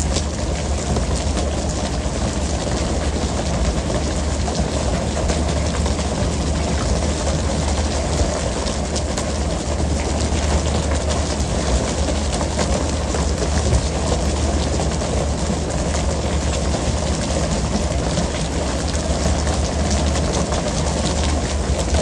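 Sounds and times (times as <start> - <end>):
boat engine running: 0.0 - 22.0
sea water rushing: 0.0 - 22.0.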